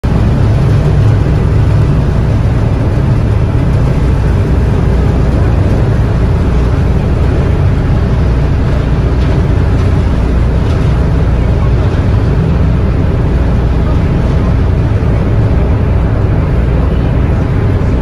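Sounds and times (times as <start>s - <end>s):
ferry engines rumbling: 0.0s - 18.0s.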